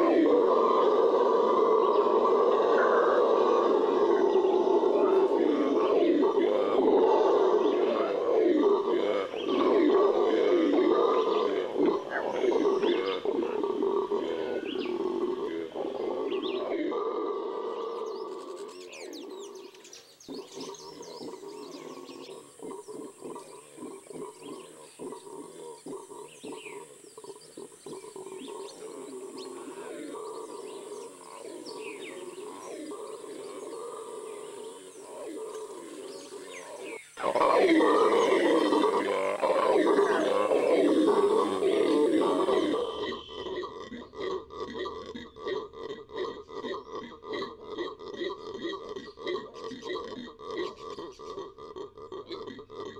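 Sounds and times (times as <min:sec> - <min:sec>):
howler monkeys howling: 0:00.0 - 0:52.9.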